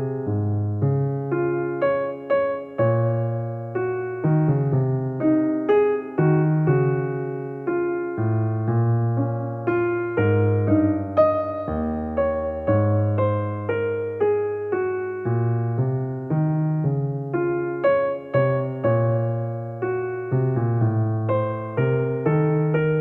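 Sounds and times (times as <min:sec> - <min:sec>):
gentle keyboard piano tune: 0:00.0 - 0:23.0.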